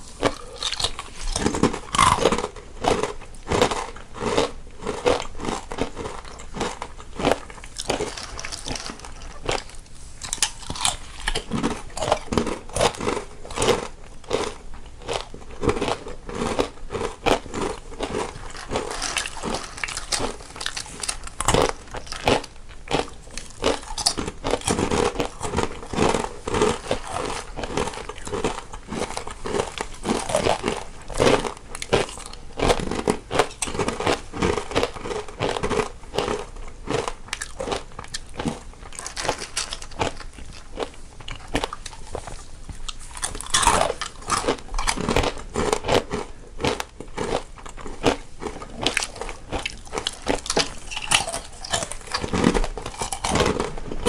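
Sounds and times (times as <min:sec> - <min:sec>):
people chewing crunchy snacks: 0:00.0 - 0:54.0.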